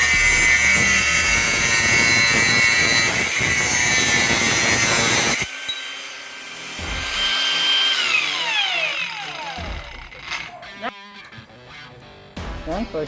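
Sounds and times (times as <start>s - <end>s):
angle grinder cutting steel: 0.0s - 11.4s
grinder running free whine: 0.0s - 11.4s.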